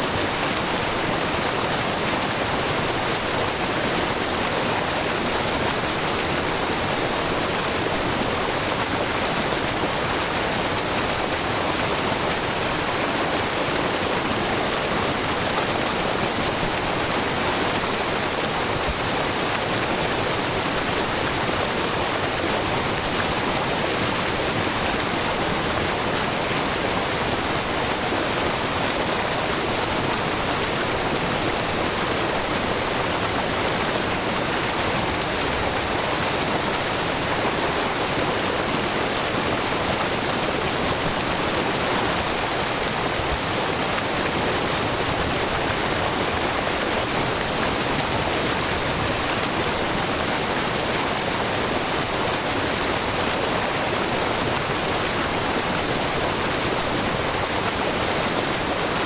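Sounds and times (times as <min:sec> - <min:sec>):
waterfall splashing into pool: 0:00.1 - 0:59.0.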